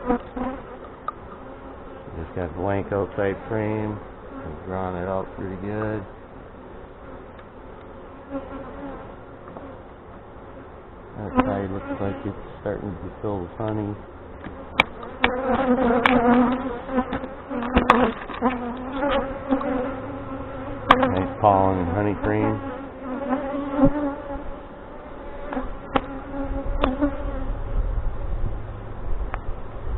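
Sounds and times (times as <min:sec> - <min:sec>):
honey bees buzzing: 0:00.0 - 0:28.4.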